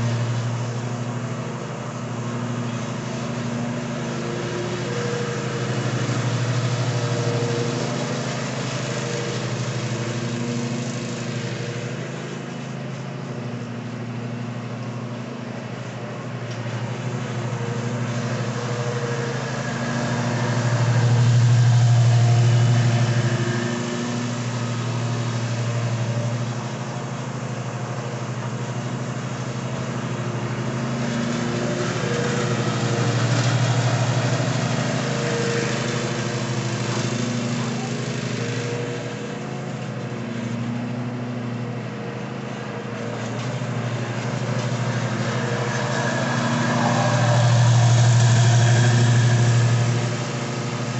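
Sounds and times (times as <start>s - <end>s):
riding mower engine running: 0.0s - 50.9s.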